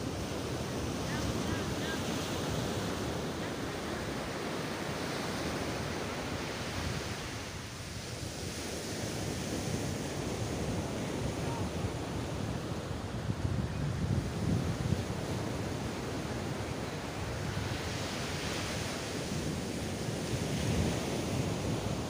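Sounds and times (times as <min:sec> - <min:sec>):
ocean waves breaking: 0:00.0 - 0:22.0
wind on microphone: 0:00.0 - 0:22.0.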